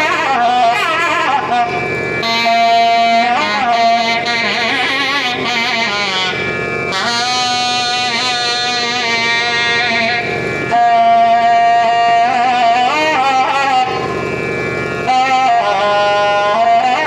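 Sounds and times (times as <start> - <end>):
double reed horn melody: 0.0 - 17.0.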